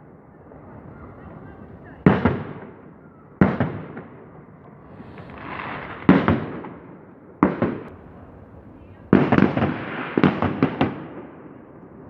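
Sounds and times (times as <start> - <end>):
fireworks bangs echoing: 0.5 - 11.8.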